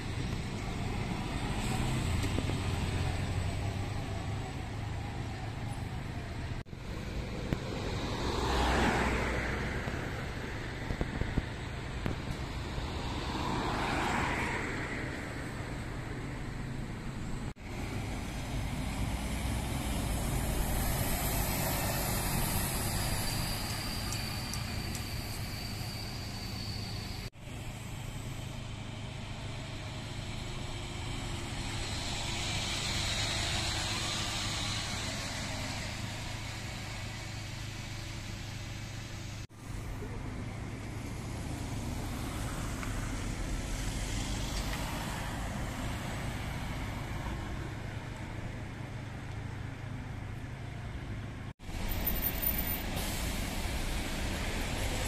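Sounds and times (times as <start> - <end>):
buses and traffic passing slowly: 0.0 - 55.0.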